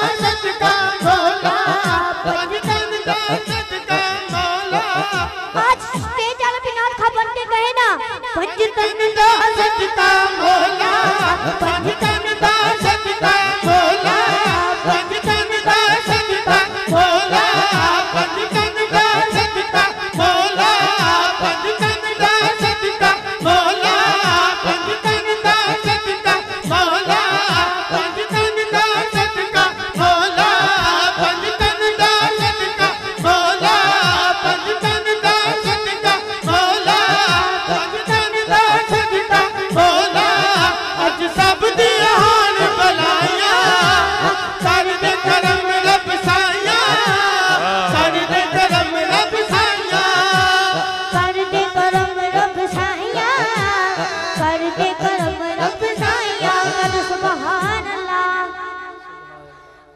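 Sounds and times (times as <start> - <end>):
boy singing through microphone: 0.0 - 59.9.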